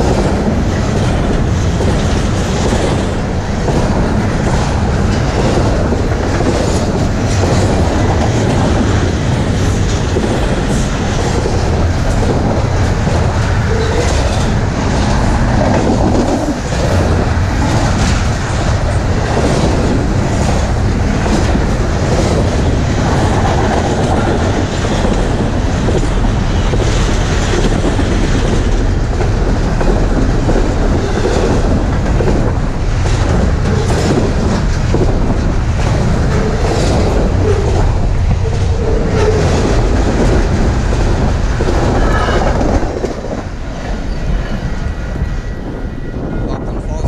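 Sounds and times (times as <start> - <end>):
wheels clacking over rail joints: 0.0 - 45.4
freight train cars rolling: 0.0 - 47.0.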